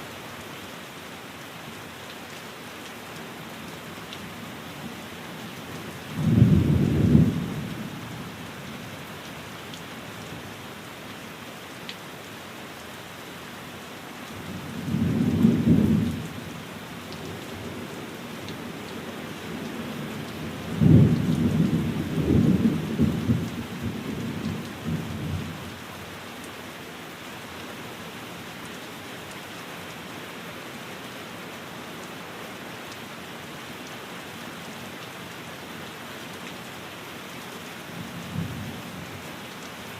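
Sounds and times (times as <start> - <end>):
rain falling on a window: 0.0 - 39.9.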